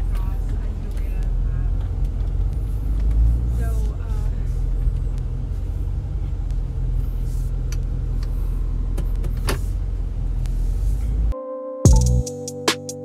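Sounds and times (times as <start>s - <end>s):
diesel engine and road noise: 0.0s - 11.4s.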